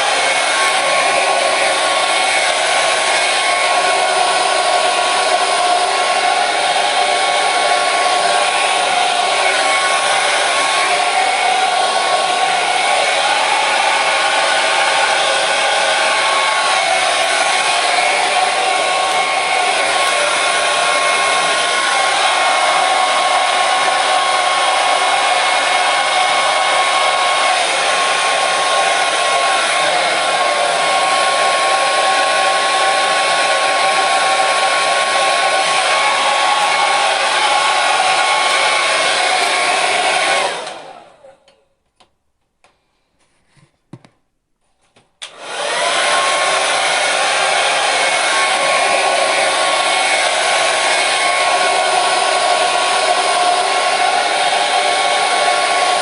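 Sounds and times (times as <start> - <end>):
hair dryer running: 0.0 - 41.6, 45.2 - 56.0.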